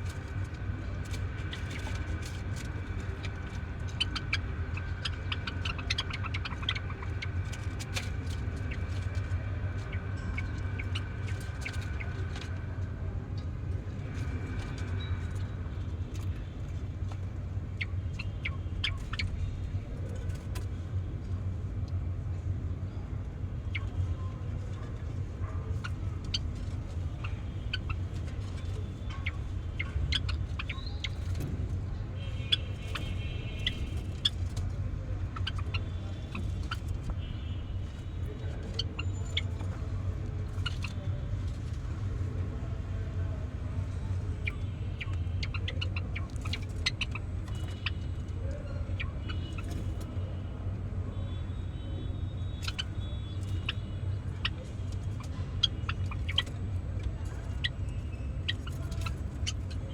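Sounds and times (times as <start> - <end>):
steady low rumble: 0.0 - 51.1
sparrows chipping and chattering: 0.0 - 59.9.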